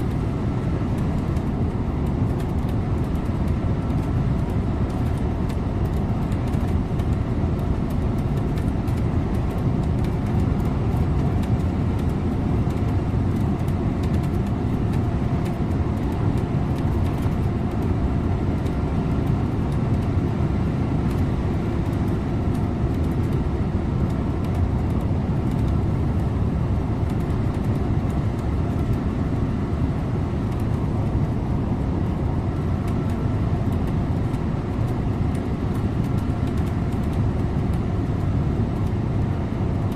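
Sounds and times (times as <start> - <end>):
bus diesel engine rumble: 0.0 - 39.9
road noise: 0.0 - 39.9.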